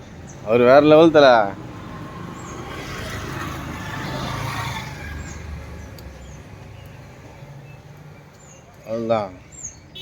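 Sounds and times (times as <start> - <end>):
motor vehicle running: 0.0 - 8.7.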